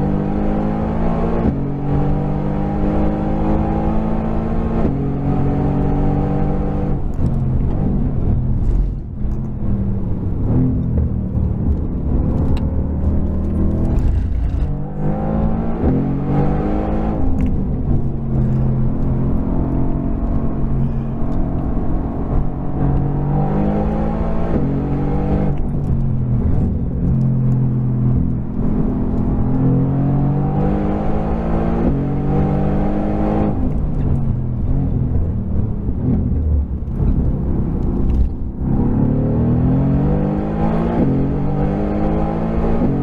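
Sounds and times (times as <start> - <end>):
sports car engine revving: 0.0 - 8.9, 9.6 - 43.0.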